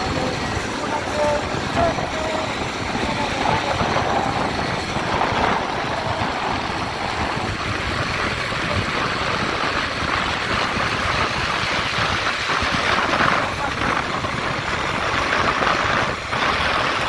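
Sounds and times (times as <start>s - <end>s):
motorcycle engine running: 0.0s - 17.0s
wind rush: 0.0s - 17.0s.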